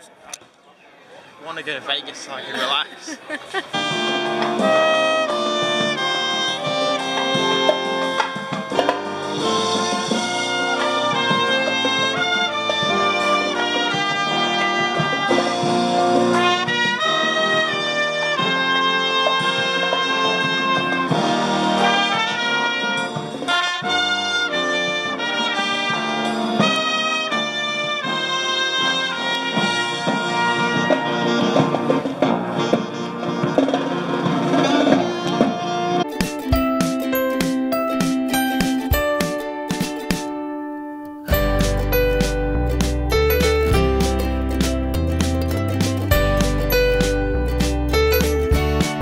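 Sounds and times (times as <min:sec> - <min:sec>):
marching brass band playing: 0:03.7 - 0:40.1, 0:41.3 - 0:49.0.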